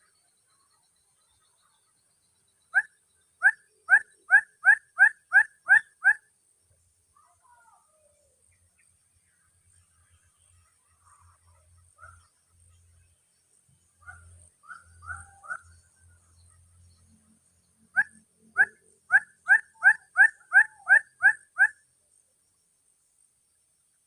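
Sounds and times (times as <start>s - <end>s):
bird chirping: 0.0s - 6.3s, 10.6s - 24.0s
high-pitched insect whine: 0.0s - 24.0s.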